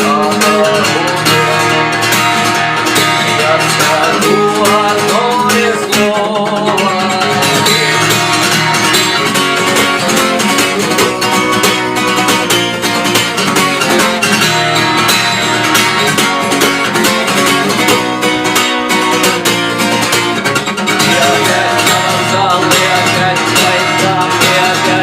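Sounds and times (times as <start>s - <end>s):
acoustic guitar strummed fast: 0.0s - 25.0s.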